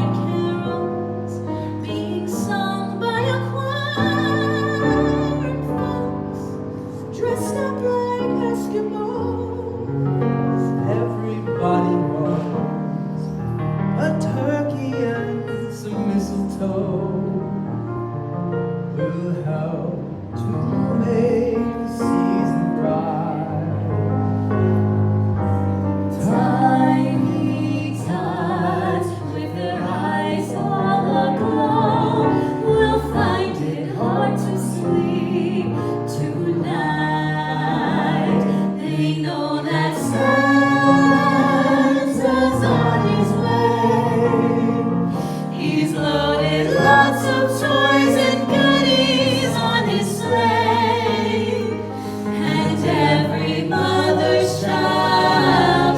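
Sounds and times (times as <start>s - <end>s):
choir singing in harmony: 0.0s - 55.9s
musical accompaniment: 0.0s - 55.9s.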